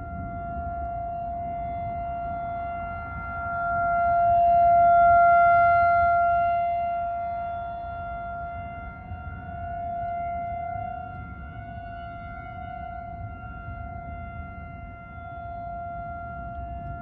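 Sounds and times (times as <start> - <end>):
steady warning siren: 0.0 - 17.0.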